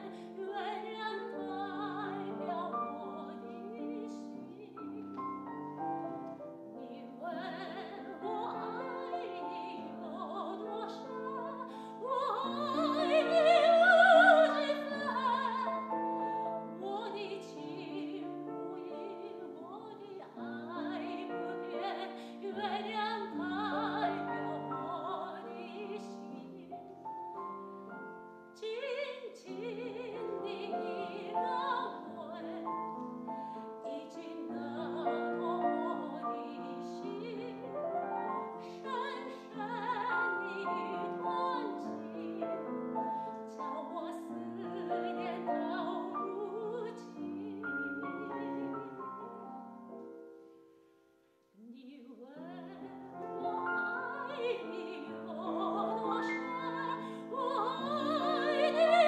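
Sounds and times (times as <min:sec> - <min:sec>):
woman singing operatically: 0:00.0 - 0:05.0, 0:06.8 - 0:26.7, 0:28.6 - 0:33.0, 0:33.6 - 0:42.6, 0:43.3 - 0:49.4, 0:51.6 - 0:59.0
grand piano: 0:00.0 - 0:59.0.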